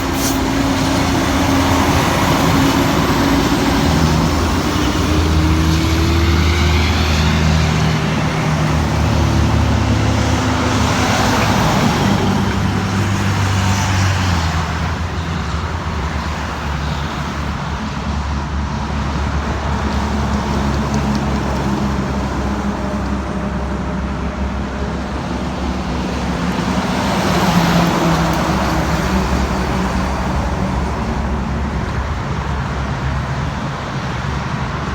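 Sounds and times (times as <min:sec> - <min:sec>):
road traffic: 0:00.0 - 0:34.9
trucks passing: 0:00.0 - 0:34.9.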